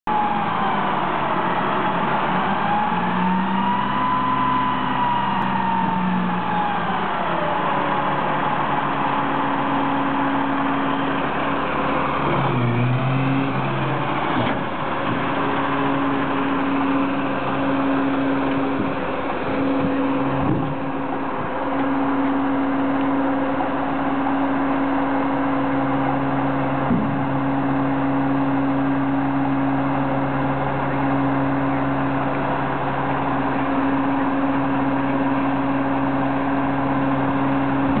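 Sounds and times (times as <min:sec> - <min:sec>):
diesel truck engine running: 0:00.1 - 0:38.0.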